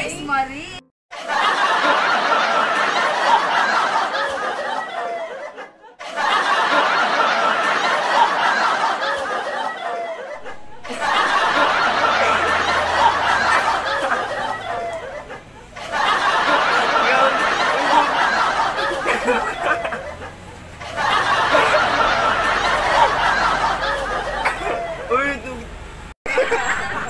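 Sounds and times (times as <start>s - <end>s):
crowd laughing: 1.1s - 25.6s, 26.3s - 27.0s.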